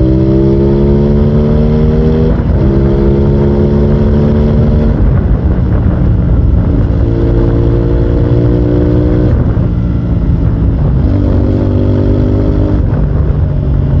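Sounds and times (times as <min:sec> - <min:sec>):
motorcycle engine shifting gears: 0:00.0 - 0:14.0.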